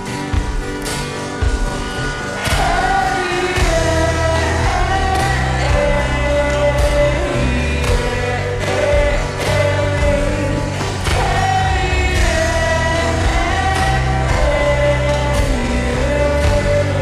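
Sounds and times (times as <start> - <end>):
strummed acoustic guitar: 0.0 - 17.0
person singing: 2.4 - 17.0.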